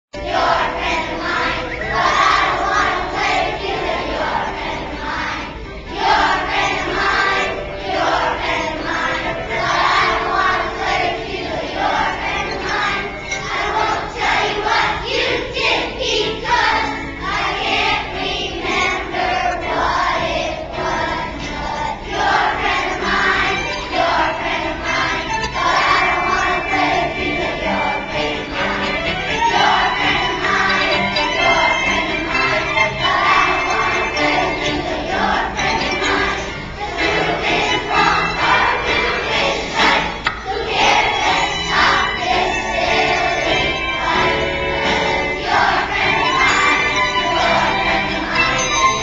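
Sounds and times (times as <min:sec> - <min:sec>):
young children singing: 0:00.2 - 0:49.0.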